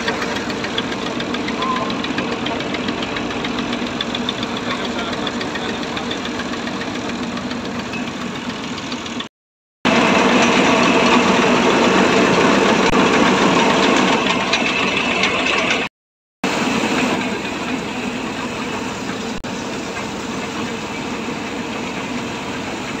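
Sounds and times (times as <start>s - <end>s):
washing machine engine running: 0.0s - 23.0s.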